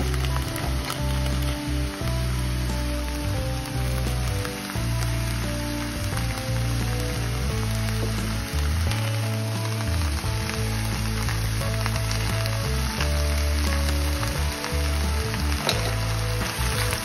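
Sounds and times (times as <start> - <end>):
background music: 0.0 - 17.0
vegetables sizzling in oil: 0.0 - 17.0.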